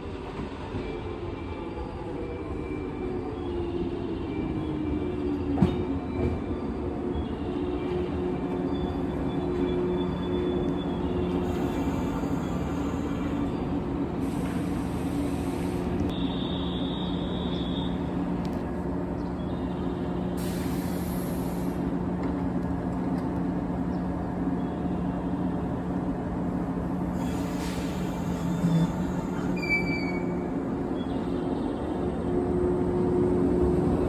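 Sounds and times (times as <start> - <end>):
electric train humming: 0.0 - 34.0.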